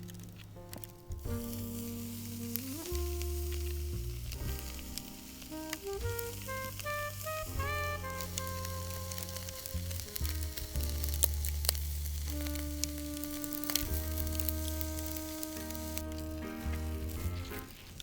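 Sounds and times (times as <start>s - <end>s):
soft background music: 0.0s - 18.0s
food sizzling in a pan: 1.2s - 18.0s.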